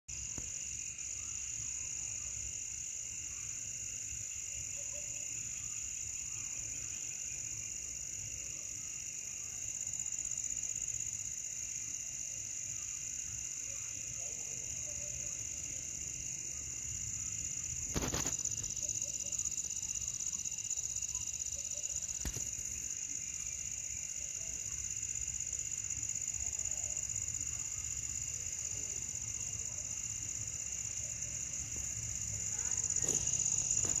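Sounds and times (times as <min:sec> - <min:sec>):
crickets chirping: 0:00.1 - 0:34.0.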